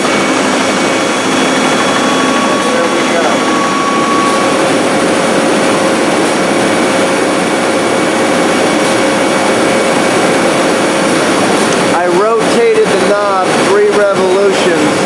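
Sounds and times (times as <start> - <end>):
belt sander running: 0.0 - 14.5.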